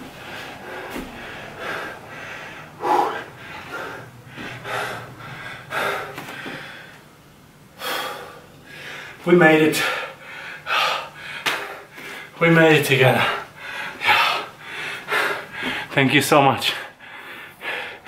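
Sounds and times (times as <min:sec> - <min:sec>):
man breathing hard: 0:00.0 - 0:12.4, 0:13.0 - 0:16.0, 0:16.6 - 0:18.0.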